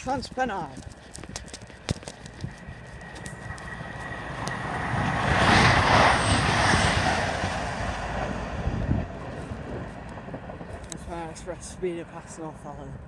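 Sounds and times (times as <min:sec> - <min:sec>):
passenger train passing at speed: 0:02.2 - 0:13.0.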